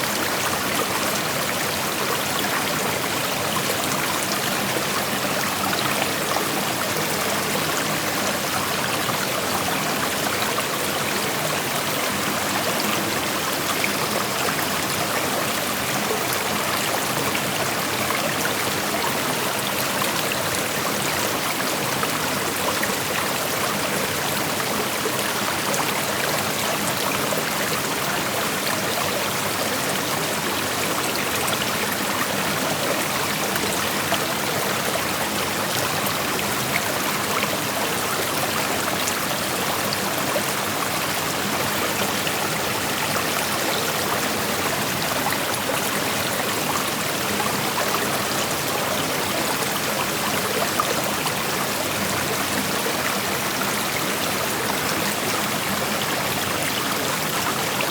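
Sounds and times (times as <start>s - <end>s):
creek water flowing over rocks: 0.0s - 57.9s.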